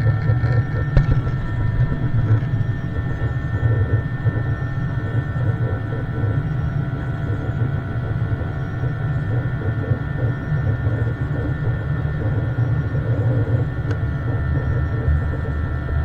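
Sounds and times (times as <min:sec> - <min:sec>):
jet engine and airflow rumble: 0:00.0 - 0:16.0
whining engine tones: 0:00.0 - 0:16.0.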